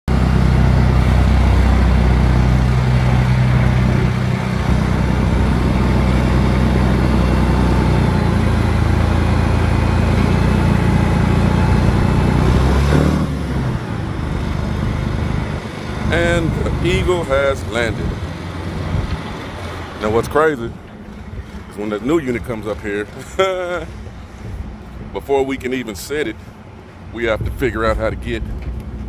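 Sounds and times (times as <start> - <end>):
large engine running under load: 0.1 - 29.0.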